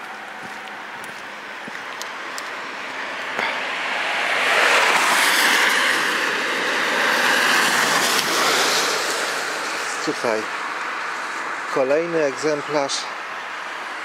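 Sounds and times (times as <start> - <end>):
vehicle passing close by: 0.0 - 11.2.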